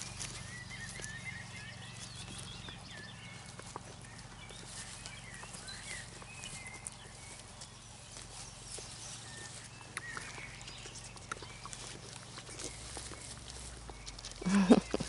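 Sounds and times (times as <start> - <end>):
birds chirping: 0.0 - 15.0
hooves clicking: 0.0 - 15.0
sheep chewing clicks: 0.0 - 15.0.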